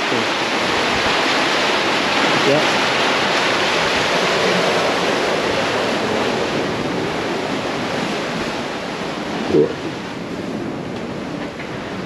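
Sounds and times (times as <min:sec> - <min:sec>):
boat wake water churning: 0:00.0 - 0:12.0
wind: 0:00.0 - 0:12.0.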